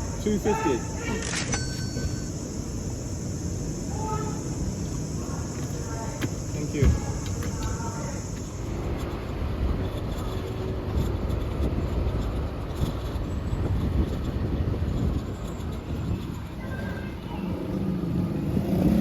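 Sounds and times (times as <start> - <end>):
road traffic: 0.0 - 19.0
motorbike rumble: 1.9 - 19.0.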